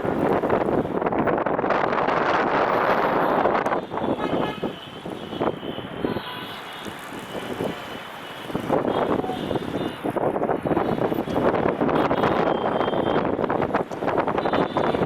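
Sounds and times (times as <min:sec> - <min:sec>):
wind on the microphone: 0:00.0 - 0:07.8, 0:08.5 - 0:15.0.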